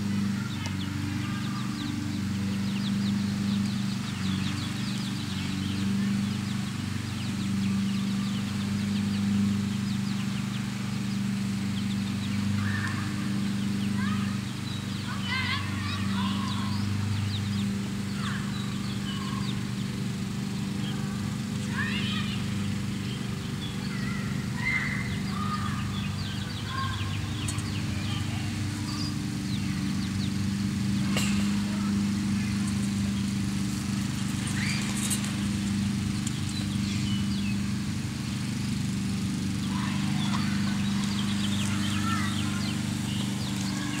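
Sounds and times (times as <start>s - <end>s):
chicks peeping and chirping: 0.0s - 44.0s
low engine-like hum: 0.0s - 44.0s.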